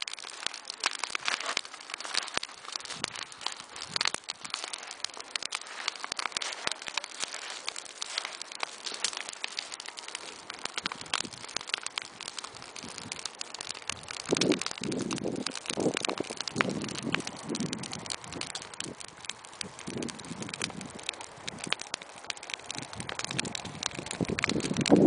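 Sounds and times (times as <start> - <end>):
bonfire crackling and popping: 0.0 - 25.0
hiss of burning: 0.0 - 25.0.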